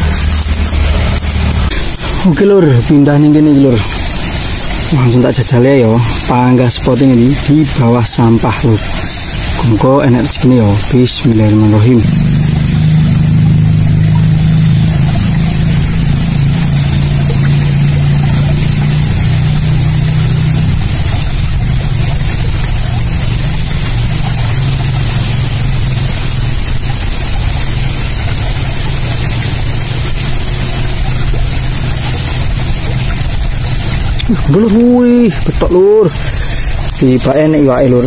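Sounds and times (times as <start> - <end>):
motor humming: 0.0 - 38.0.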